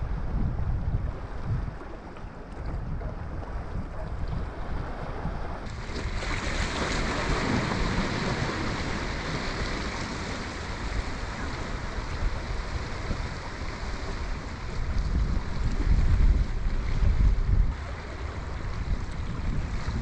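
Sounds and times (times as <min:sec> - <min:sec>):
wind buffeting microphone: 0:00.0 - 0:20.0
small waves against rock wall: 0:01.6 - 0:20.0.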